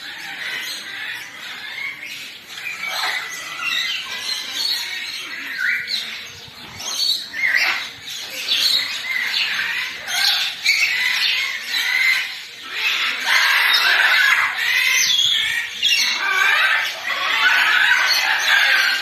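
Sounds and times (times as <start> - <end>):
birds squawking and chirping: 0.0 - 19.0.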